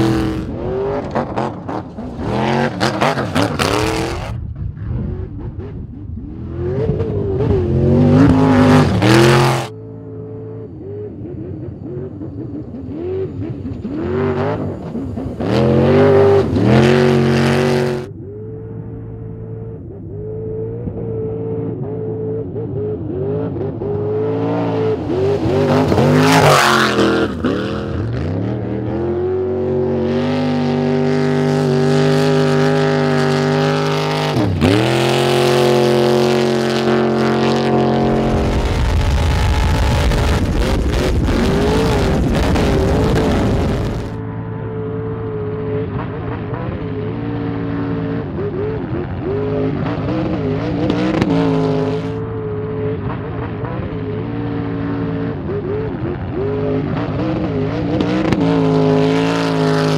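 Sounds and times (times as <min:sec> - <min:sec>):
truck engine at high revs: 0:00.0 - 0:59.9.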